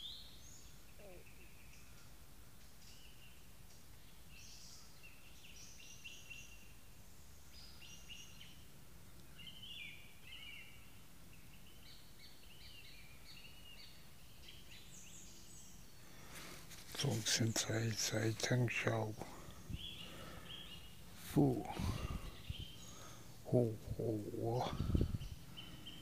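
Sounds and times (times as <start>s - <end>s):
low background noise: 0.0s - 26.0s
small birds chirping: 0.0s - 26.0s.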